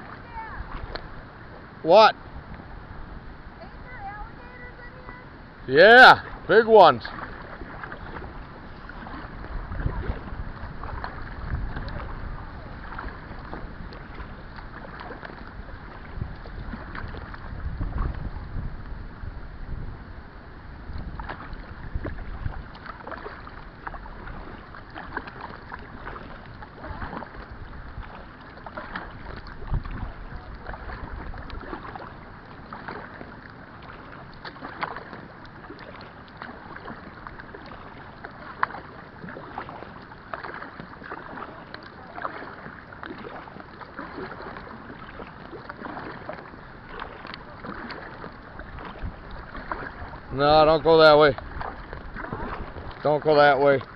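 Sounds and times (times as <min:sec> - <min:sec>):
wind rumbling on microphone: 0:00.0 - 0:35.4, 0:40.5 - 0:53.9
paddle splashing in water: 0:00.0 - 0:53.9.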